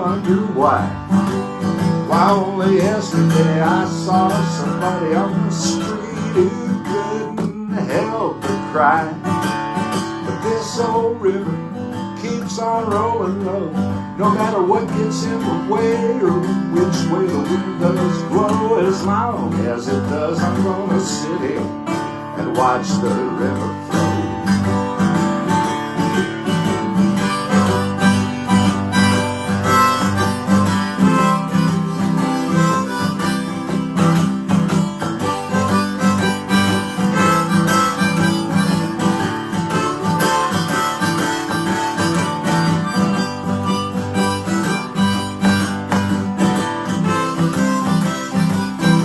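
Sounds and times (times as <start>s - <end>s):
acoustic guitar strumming: 0.0s - 49.0s
harmonica solo: 0.0s - 49.0s.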